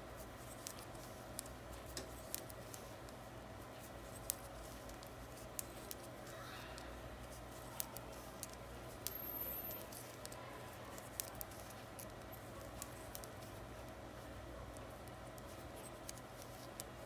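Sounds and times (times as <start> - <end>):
knitting needles clicking: 0.4 - 3.2, 3.8 - 14.0, 14.7 - 17.0.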